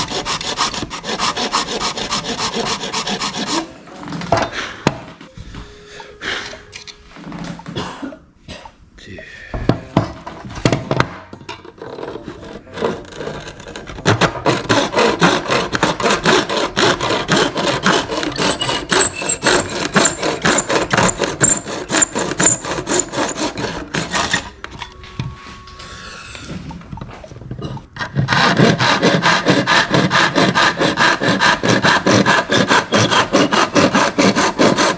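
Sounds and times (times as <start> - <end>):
hand tool sawing plastic: 0.0 - 5.3, 9.7 - 34.9.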